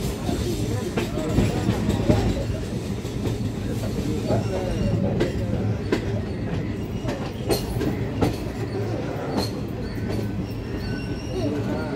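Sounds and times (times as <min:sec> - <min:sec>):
train wheels rumbling: 0:00.0 - 0:11.9.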